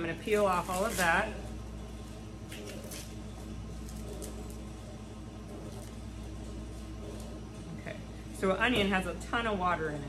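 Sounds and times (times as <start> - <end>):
kitchen equipment hum: 0.0 - 10.0.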